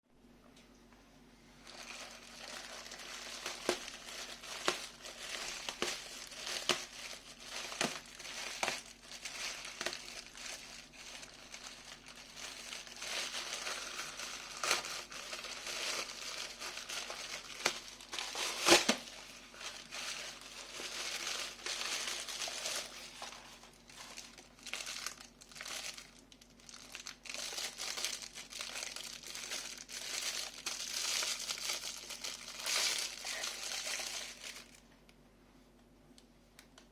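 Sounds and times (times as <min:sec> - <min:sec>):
plastic packaging crinkling: 0:01.6 - 0:34.9.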